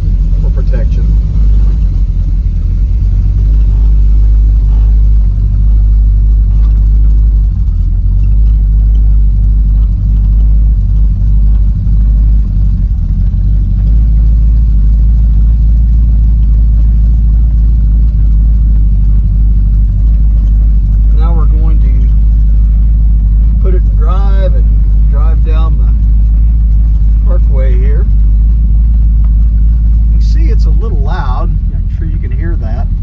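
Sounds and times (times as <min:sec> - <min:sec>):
engine idling with deep rumble: 0:00.0 - 0:33.0.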